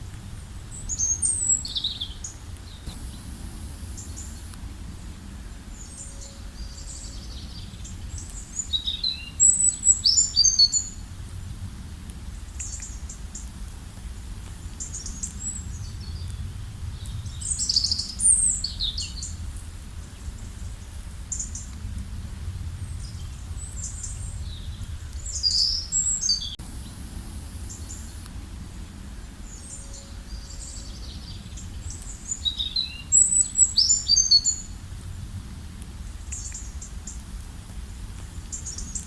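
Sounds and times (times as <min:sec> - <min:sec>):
low background rumble: 0:00.0 - 0:39.0
small birds chirping: 0:00.3 - 0:11.0, 0:12.4 - 0:13.6, 0:14.6 - 0:21.8, 0:22.6 - 0:34.8, 0:38.2 - 0:39.0.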